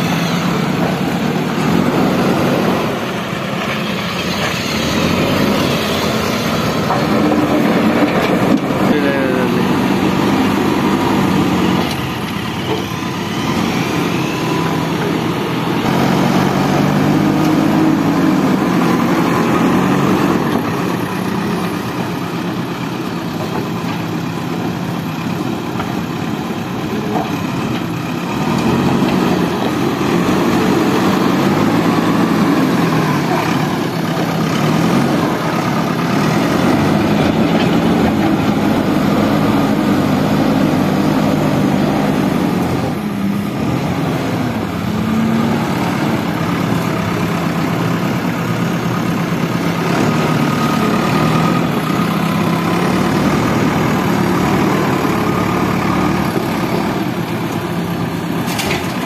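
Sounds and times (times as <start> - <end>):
diesel engine revving under load: 0.0 - 59.0.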